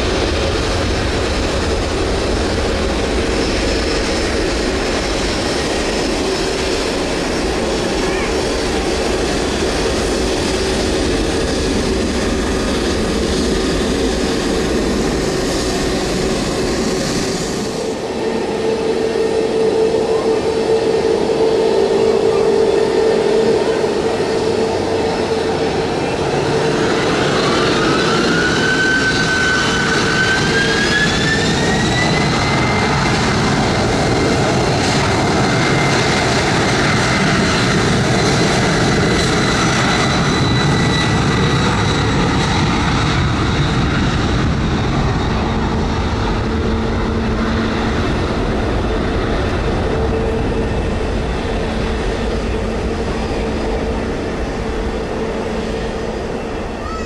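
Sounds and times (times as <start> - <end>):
jet engine whine: 0.0 - 57.0
jet engines spooling up: 0.0 - 57.0
loud jet rush: 0.0 - 57.0.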